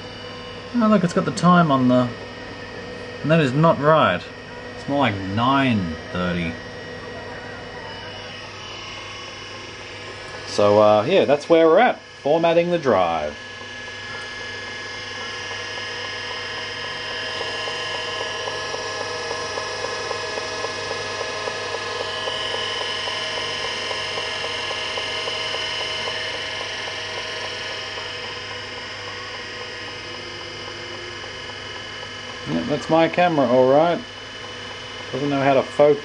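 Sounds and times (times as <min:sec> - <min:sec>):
hard drive spindle hum and whine: 0:00.0 - 0:36.0
hard drive head ticking: 0:04.6 - 0:36.0.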